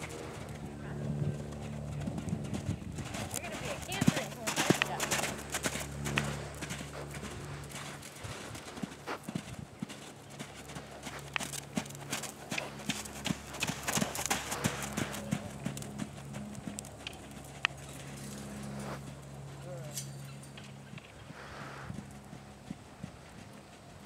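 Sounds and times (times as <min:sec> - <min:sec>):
hoofbeats trotting on sand: 0:00.0 - 0:24.0.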